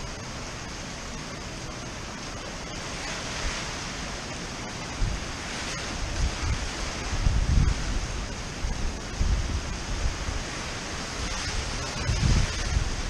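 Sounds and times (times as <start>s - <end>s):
heavy surf rushing: 0.0s - 13.0s
wind buffeting microphone: 0.0s - 13.0s.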